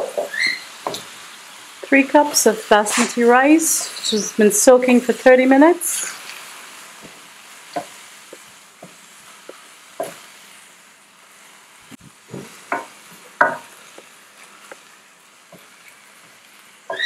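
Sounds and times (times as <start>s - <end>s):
rice and vegetables sizzling: 0.0s - 17.0s.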